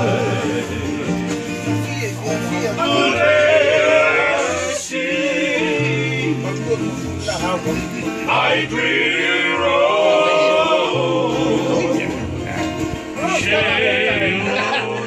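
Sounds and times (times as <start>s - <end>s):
men singing together: 0.0s - 1.5s, 2.8s - 7.4s, 8.2s - 15.0s.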